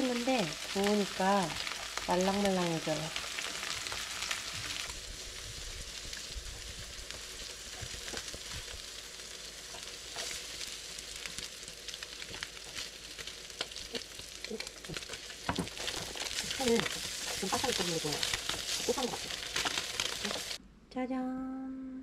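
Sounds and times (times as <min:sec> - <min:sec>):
meat sizzling in a frying pan: 0:00.0 - 0:20.6.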